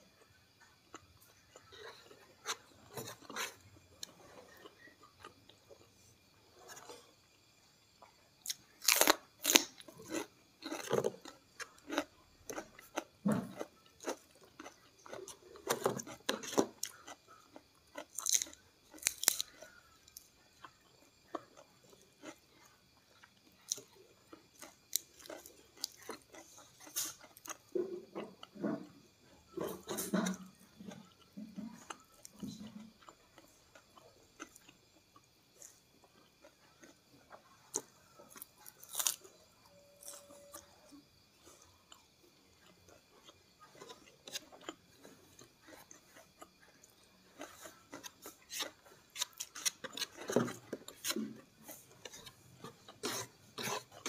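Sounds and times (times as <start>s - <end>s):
crunchy chewing: 0.1s - 54.0s.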